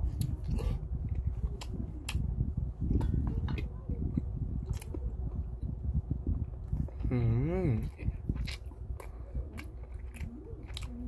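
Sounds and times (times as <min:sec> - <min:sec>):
person chewing meat: 0:00.0 - 0:03.7, 0:04.6 - 0:05.6, 0:06.3 - 0:11.0.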